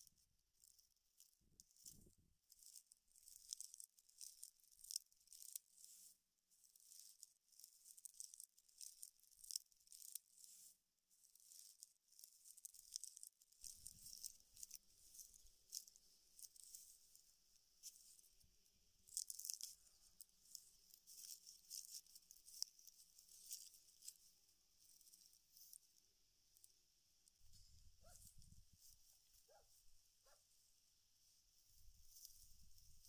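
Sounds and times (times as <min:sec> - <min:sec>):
dry fiber rustling and crackling: 0:00.0 - 0:33.0.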